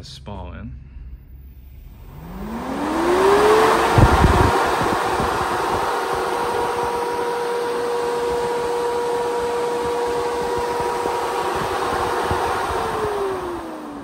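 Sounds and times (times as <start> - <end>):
fan blade whine: 0.0 - 14.0
radiator fan air rush: 1.1 - 14.0.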